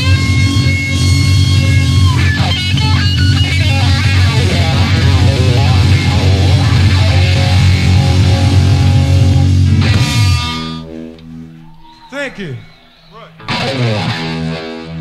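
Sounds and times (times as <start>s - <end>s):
rock music with electric guitar: 0.0s - 11.7s, 13.4s - 15.0s.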